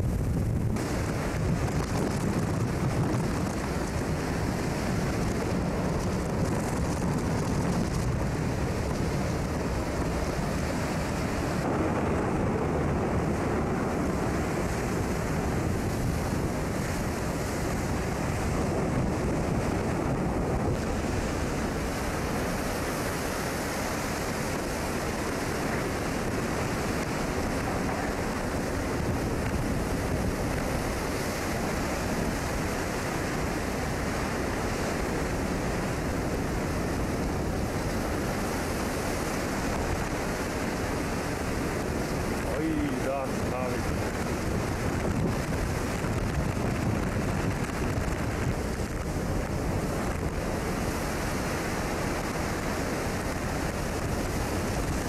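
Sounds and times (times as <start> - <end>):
waves washing across deck: 0.0 - 55.0
wind on microphone: 0.0 - 55.0.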